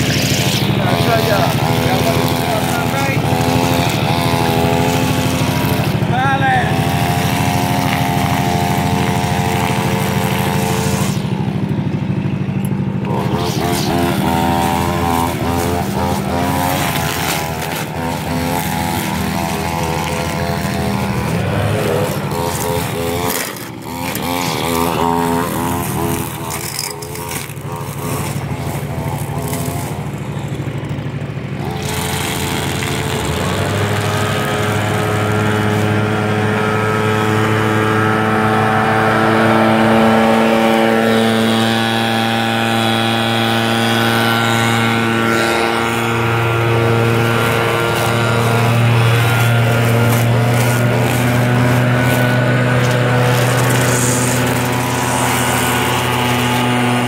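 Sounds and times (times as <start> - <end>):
string trimmer engine running: 0.0 - 57.0.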